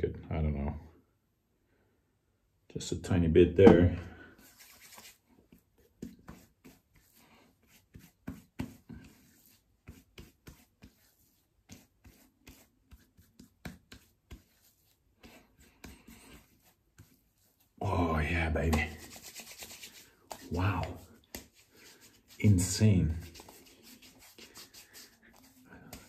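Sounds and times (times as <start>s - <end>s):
hands brushing over beard: 4.3s - 26.0s.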